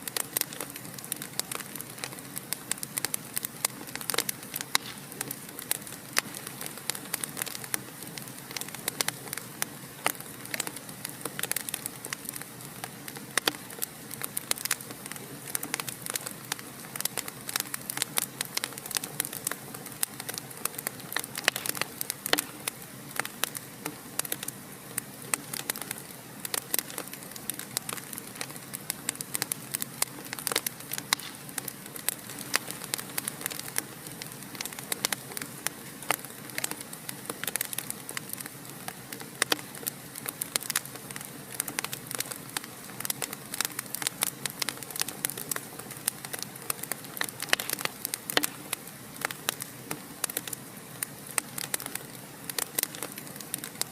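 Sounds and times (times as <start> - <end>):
fire crackling in a fireplace: 0.0 - 53.9.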